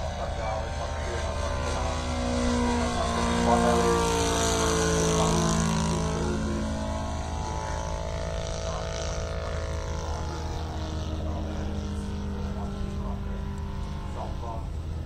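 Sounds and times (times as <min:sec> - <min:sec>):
model airplane engine running: 0:00.0 - 0:15.0.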